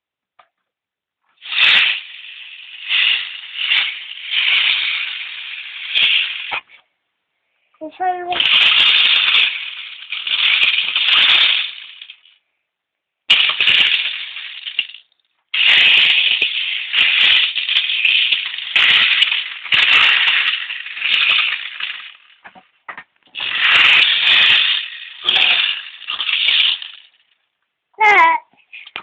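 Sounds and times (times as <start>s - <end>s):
plastic beads rattling in drum: 1.2s - 6.8s, 8.0s - 12.4s, 13.3s - 29.0s.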